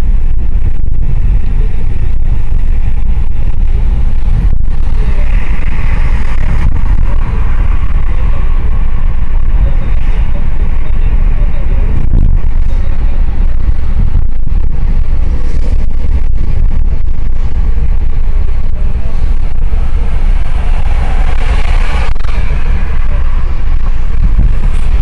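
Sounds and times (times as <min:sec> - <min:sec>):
tyre and road noise: 0:00.0 - 0:25.0
wind buffeting microphone: 0:00.0 - 0:25.0.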